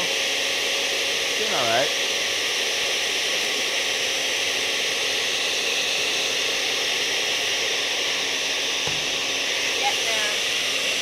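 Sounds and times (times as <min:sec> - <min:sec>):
blender whirring: 0:00.0 - 0:11.0.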